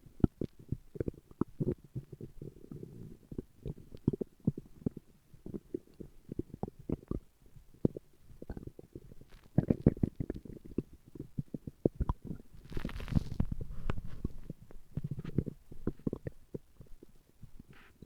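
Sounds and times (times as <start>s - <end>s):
stomach growling and gurgling: 0.0s - 18.0s.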